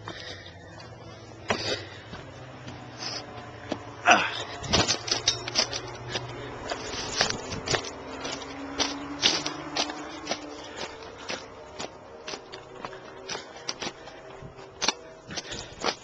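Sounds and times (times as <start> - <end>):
footsteps and scuffing: 0.0 - 16.0.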